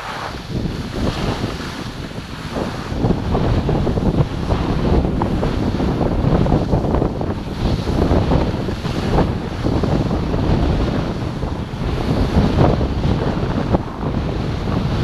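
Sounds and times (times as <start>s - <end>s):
skis scraping on snow: 0.0s - 13.7s
wind buffeting microphone: 0.0s - 15.0s.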